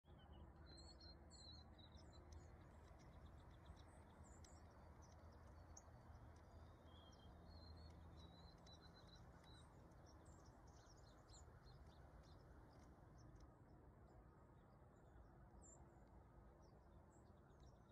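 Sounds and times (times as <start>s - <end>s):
songbirds chirping: 0.1s - 17.9s.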